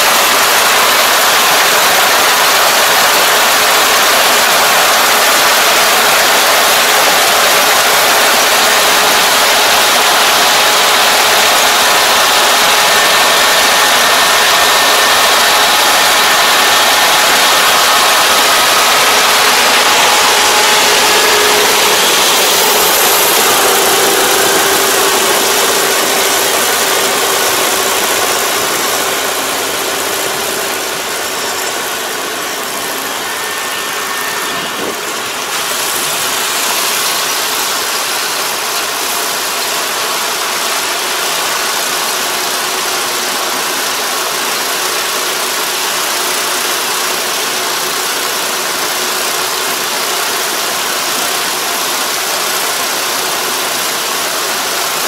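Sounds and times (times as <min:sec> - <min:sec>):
combine harvester diesel engine: 0:00.0 - 0:55.0.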